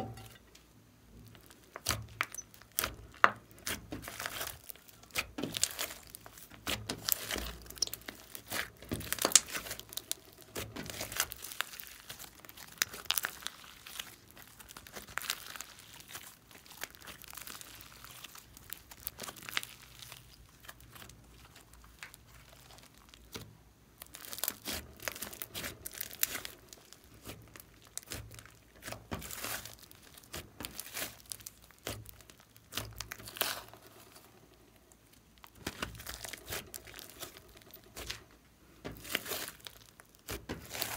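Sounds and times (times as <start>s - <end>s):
slime crackling and popping: 1.2s - 40.9s.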